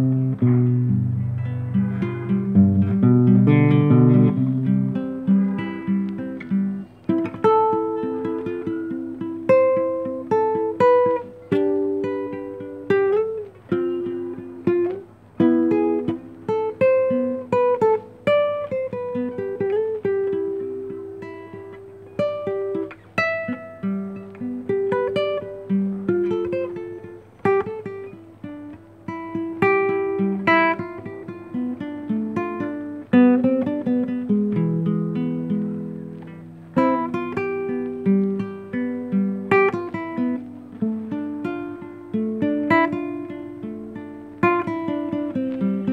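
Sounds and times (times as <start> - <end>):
classical guitar fingerstyle: 0.0 - 45.9.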